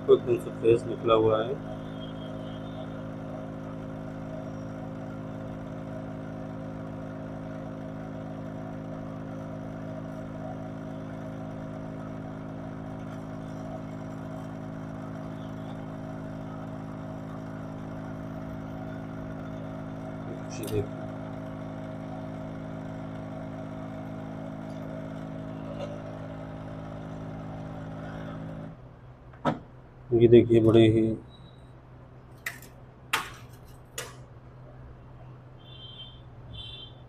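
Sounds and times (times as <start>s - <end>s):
machine electrical hum: 0.0s - 37.0s.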